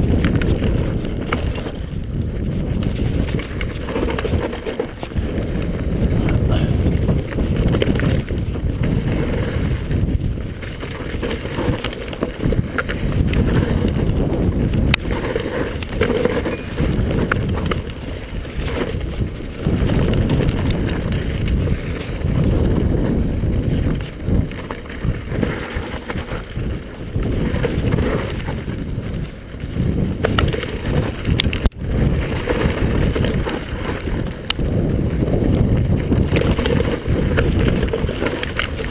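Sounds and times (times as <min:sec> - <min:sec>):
bike clicks and rattles: 0:00.0 - 0:38.9
tyres rumbling on dirt trail: 0:00.0 - 0:38.9
wind buffeting microphone: 0:00.0 - 0:38.9.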